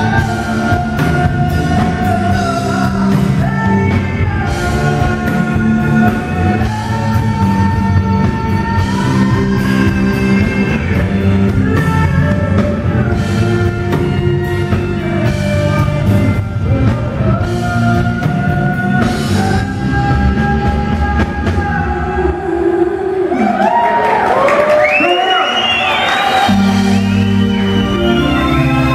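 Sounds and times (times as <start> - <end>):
electric guitars: 0.0 - 22.3, 25.6 - 28.9
drum kit: 0.0 - 22.4, 25.8 - 28.9
bass guitar: 0.0 - 22.9, 25.7 - 28.9
woman singing: 0.0 - 23.6.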